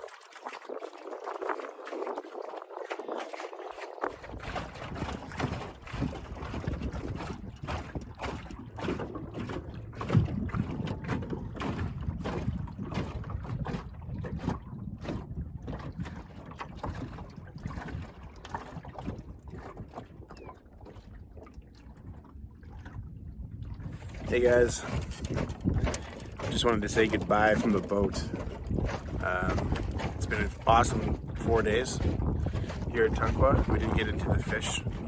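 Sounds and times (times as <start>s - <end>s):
rushing water: 0.0s - 23.0s, 23.7s - 35.0s
small boat under way: 0.0s - 35.0s
wind buffeting microphone: 0.0s - 35.0s.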